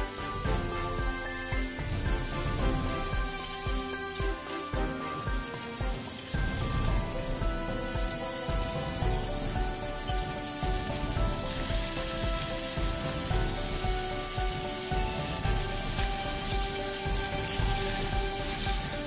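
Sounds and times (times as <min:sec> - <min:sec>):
pork sizzling in a frying pan: 0:00.0 - 0:19.0
soft background music: 0:00.0 - 0:19.0.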